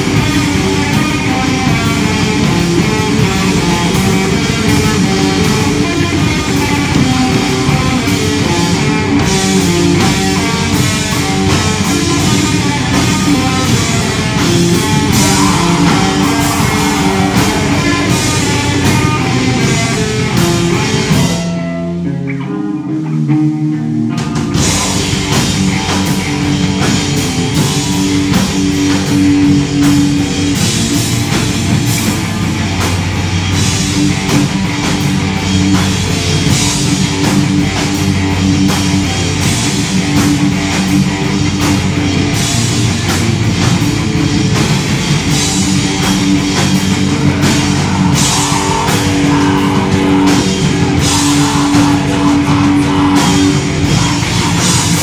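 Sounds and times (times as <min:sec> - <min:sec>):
bass guitar: 0:00.0 - 0:55.0
drum kit: 0:00.0 - 0:55.0
electric guitars: 0:00.0 - 0:55.0.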